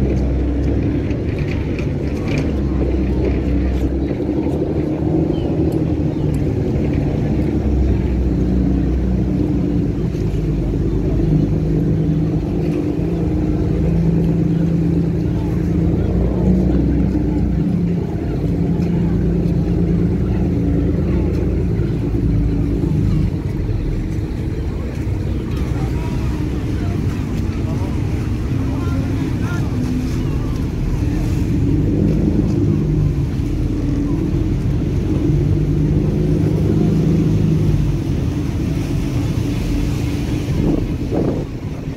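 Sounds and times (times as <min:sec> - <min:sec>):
ferry engine droning: 0:00.0 - 0:41.9.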